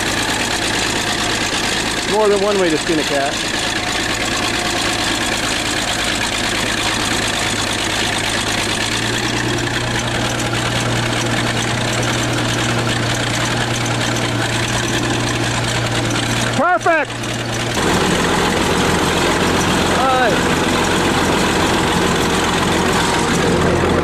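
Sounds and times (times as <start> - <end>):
bulldozer engine running: 0.0 - 24.0.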